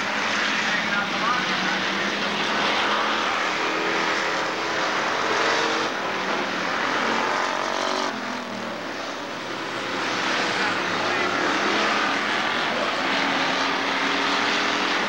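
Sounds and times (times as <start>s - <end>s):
stock car engines racing: 0.0s - 15.0s.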